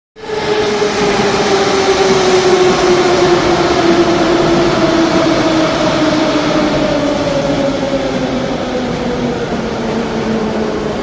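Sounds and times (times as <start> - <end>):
train wheels rumbling: 0.2 - 11.0.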